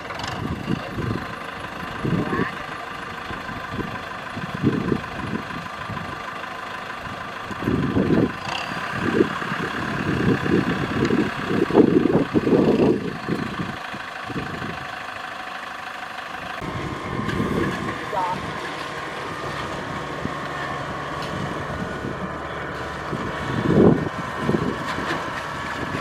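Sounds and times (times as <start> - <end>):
tractor engine straining: 0.0 - 26.0.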